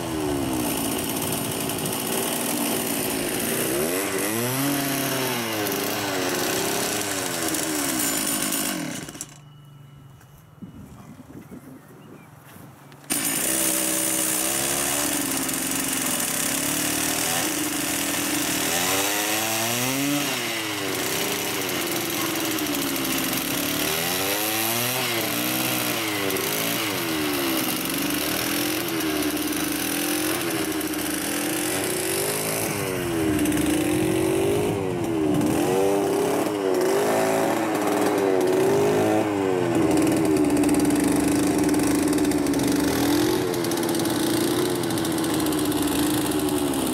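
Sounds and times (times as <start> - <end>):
small engine revving: 0.0 - 9.5, 13.0 - 46.9.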